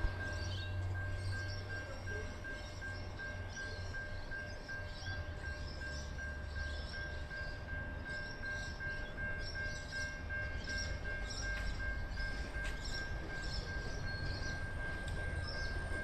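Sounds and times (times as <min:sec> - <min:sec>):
diesel train engines rumbling: 0:00.0 - 0:16.0
pulsing high ringing tone: 0:00.0 - 0:16.0.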